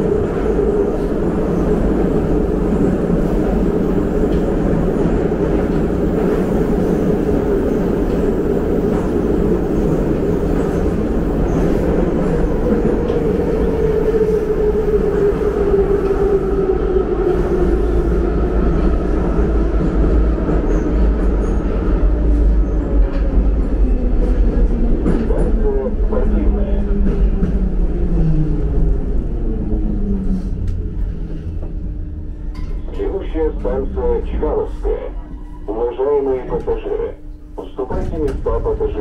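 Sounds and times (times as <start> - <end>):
train wheels rumbling in tunnel: 0.0 - 39.0.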